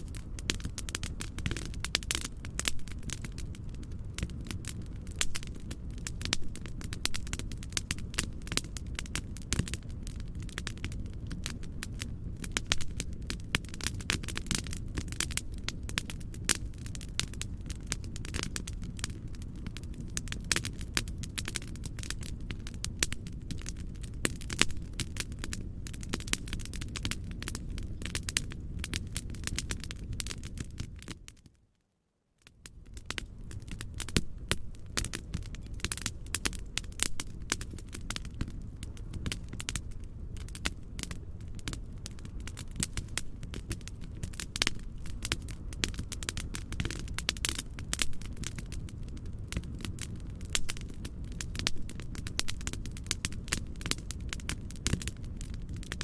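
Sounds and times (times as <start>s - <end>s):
wood fire crackling and popping: 0.0s - 31.5s, 32.4s - 56.0s
low rumble of fire: 0.0s - 56.0s.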